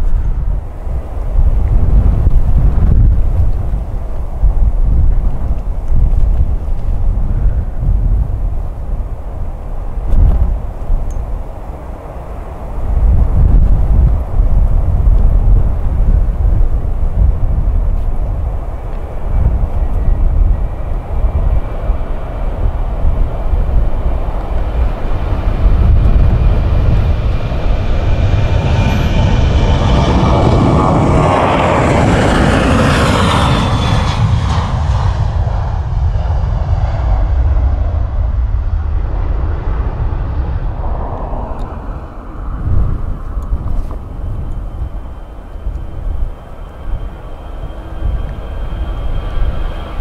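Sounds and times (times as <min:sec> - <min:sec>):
jet airliner taking off: 0:00.0 - 0:50.0.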